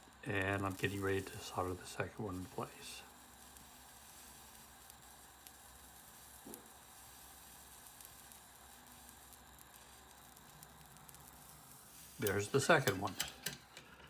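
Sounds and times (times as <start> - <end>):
soldering torch hissing: 0.0 - 13.9.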